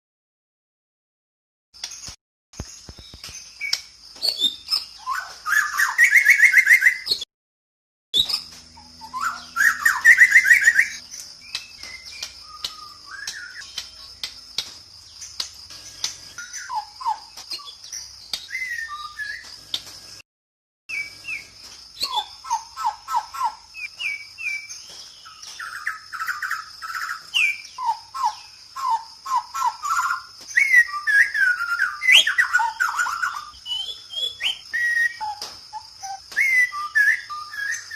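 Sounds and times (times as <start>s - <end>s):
birds calling and singing: 1.8s - 7.3s, 8.2s - 20.2s, 20.9s - 37.9s
repeated whistled bird notes: 1.8s - 7.3s, 8.2s - 20.2s, 20.9s - 37.9s.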